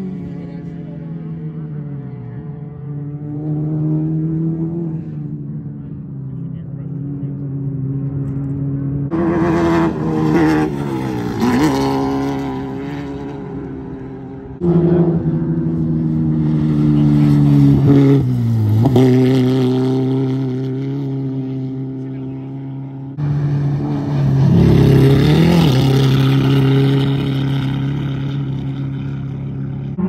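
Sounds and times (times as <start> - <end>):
race cars revving past: 0.0 - 30.0.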